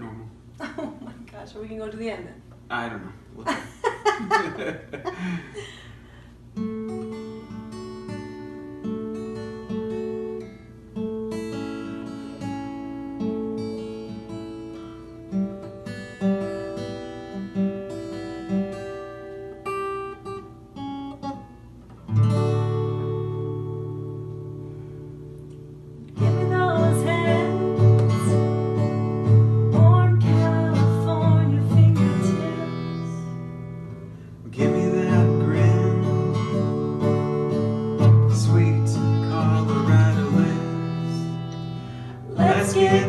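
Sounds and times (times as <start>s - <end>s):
acoustic guitar: 0.0s - 43.0s.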